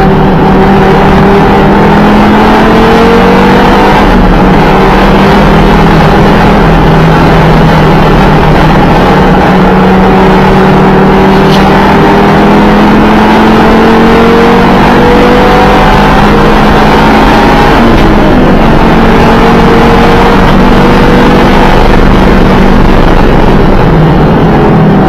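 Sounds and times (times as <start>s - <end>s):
car engine revving hard: 0.0s - 25.0s
road and wind noise: 0.0s - 25.0s.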